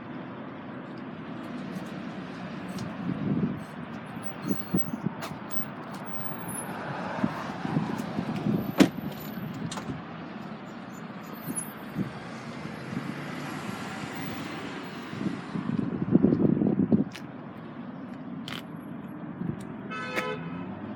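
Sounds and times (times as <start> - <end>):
passing traffic: 0.0 - 20.9.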